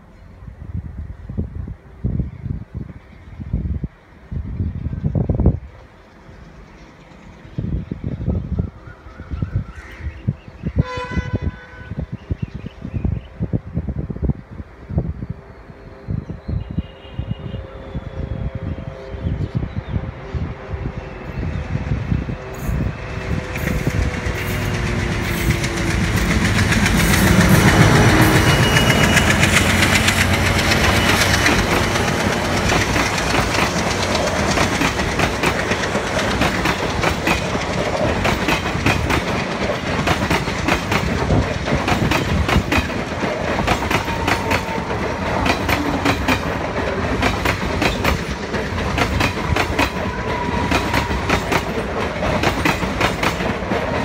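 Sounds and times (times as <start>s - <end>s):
train passing at speed: 0.0s - 54.0s.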